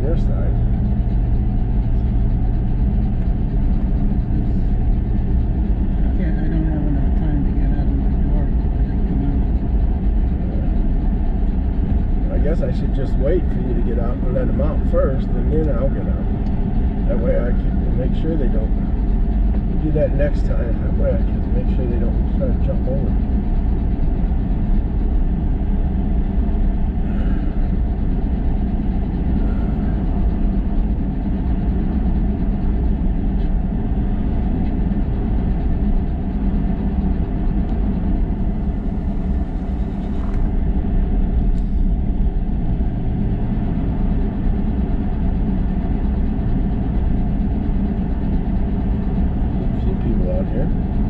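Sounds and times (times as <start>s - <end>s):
road and engine noise in car: 0.0s - 51.0s.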